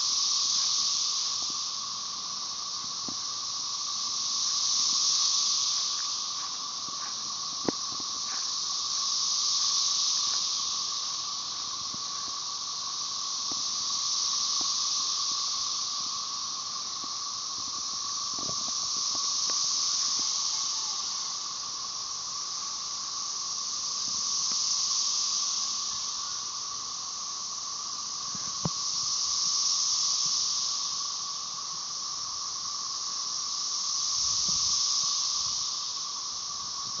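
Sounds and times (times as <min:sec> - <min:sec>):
cicadas high buzzing hiss: 0:00.0 - 0:37.0
cicadas low drone: 0:00.0 - 0:37.0.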